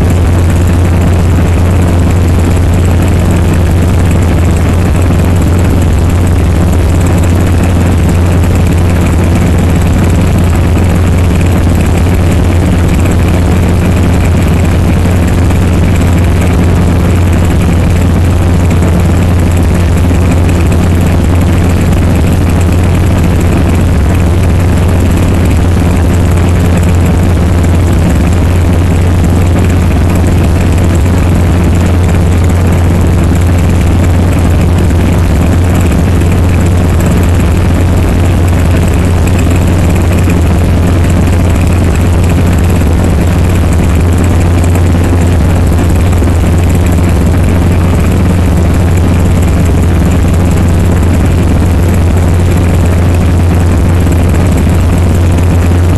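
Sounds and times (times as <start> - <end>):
helicopter cabin drone: 0.0 - 55.9.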